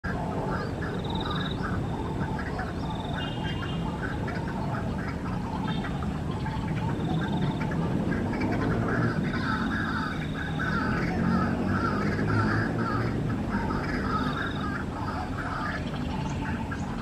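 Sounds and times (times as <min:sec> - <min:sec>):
bird calling harsh notes: 0:00.5 - 0:07.8, 0:08.4 - 0:17.0.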